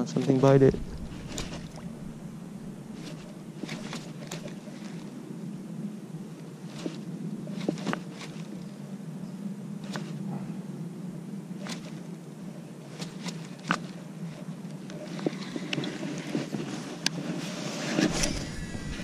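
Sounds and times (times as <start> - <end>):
steady low hum: 0.0 - 17.3, 17.9 - 19.0.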